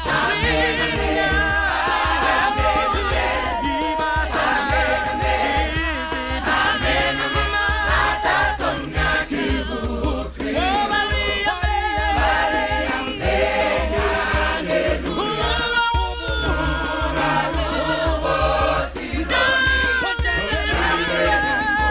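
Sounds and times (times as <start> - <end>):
choir singing in harmony: 0.0 - 21.9.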